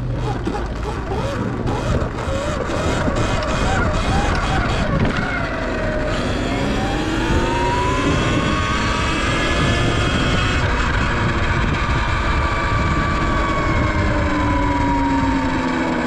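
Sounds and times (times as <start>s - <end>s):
electric motor whining: 0.0s - 16.0s
wind rush and tyre noise: 0.1s - 16.0s.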